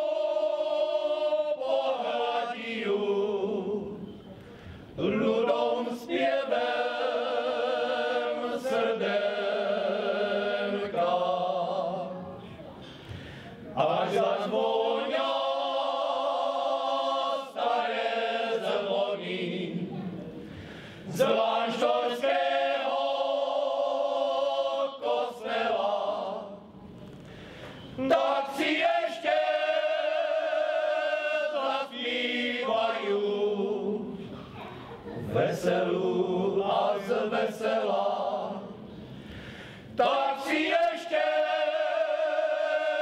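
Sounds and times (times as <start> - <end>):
male choir singing in harmony: 0.0 - 4.2, 5.0 - 12.3, 13.7 - 20.0, 20.7 - 26.7, 28.0 - 34.4, 35.1 - 43.0.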